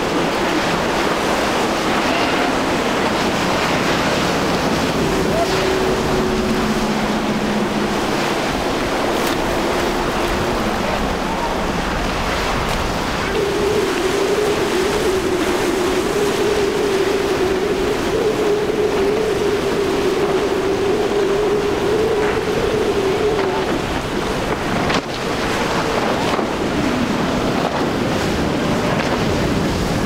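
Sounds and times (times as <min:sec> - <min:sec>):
outboard boat engines: 0:00.0 - 0:30.0
waves: 0:00.0 - 0:30.0
wind on microphone: 0:00.0 - 0:30.0.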